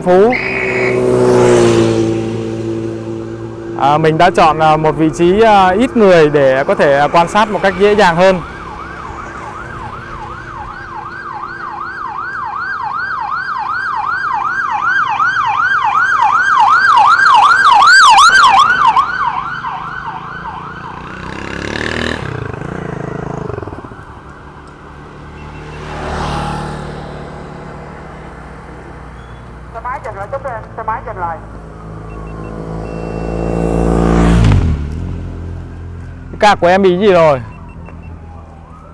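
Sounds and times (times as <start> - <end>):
siren yelping: 0.0 - 1.6, 3.5 - 28.0, 29.1 - 34.4, 35.6 - 38.9
vehicles passing by: 0.0 - 38.9.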